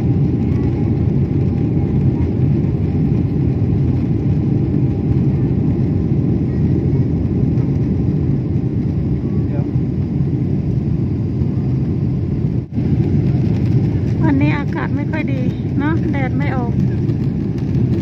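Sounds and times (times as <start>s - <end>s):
jet engine and airflow rumble: 0.0s - 18.0s.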